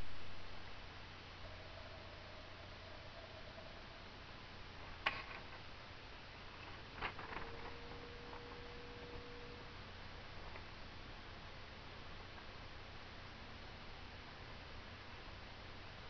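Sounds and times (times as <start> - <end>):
faint steady tone: 0.0 - 16.0
low hiss: 0.0 - 16.0
steady hum: 0.0 - 16.0.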